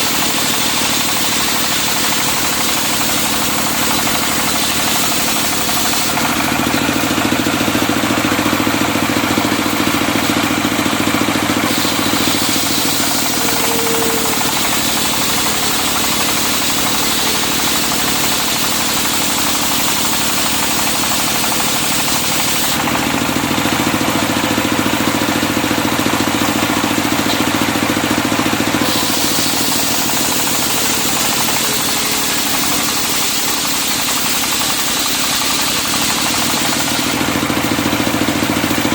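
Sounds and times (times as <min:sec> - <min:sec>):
circular sawmill sawing log: 0:00.0 - 0:38.9.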